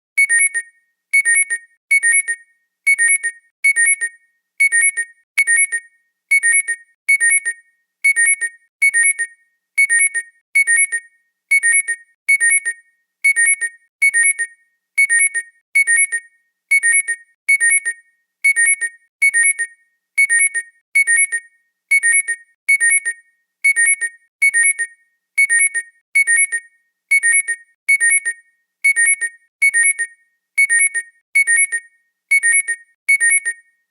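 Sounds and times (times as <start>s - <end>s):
phone alarm ringtone: 0.2s - 33.9s.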